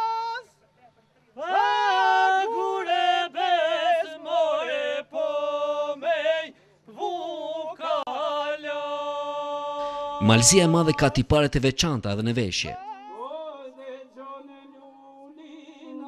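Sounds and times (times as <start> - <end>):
men singing folk song: 1.4 - 11.4, 12.8 - 16.0.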